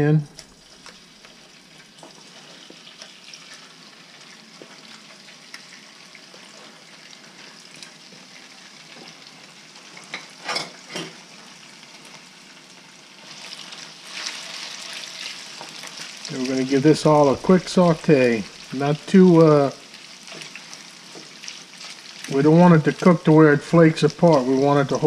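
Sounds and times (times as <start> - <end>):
fish frying in hot oil: 0.1 - 25.0.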